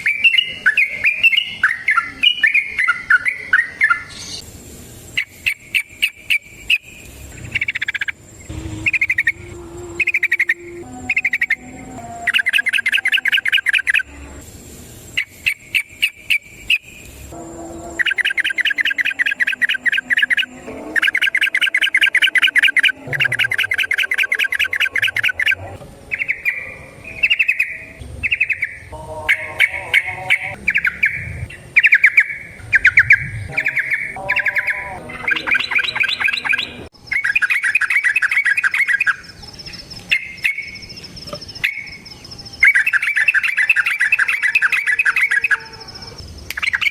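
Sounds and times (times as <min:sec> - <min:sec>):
bird singing rattling song: 0:00.0 - 0:46.9.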